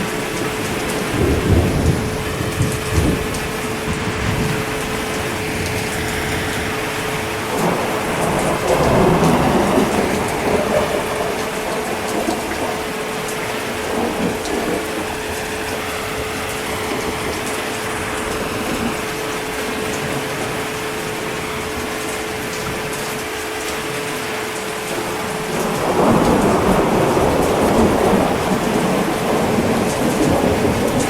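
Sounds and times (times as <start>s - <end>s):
heavy rain: 0.0s - 31.0s
thunder rumbling: 0.0s - 31.0s.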